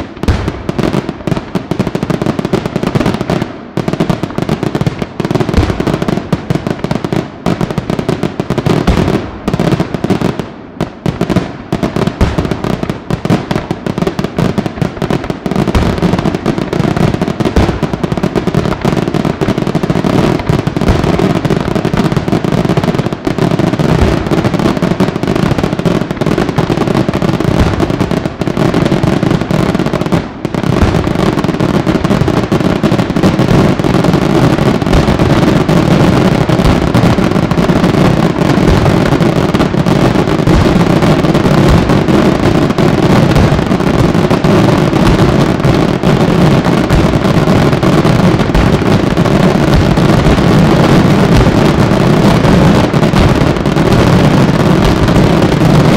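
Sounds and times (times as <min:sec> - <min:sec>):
fireworks barrage: 0:00.0 - 0:55.9.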